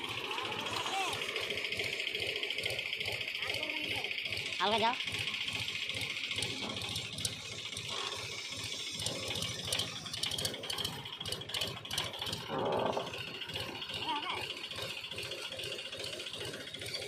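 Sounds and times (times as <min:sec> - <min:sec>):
tractor diesel engine chugging: 0:00.0 - 0:17.0.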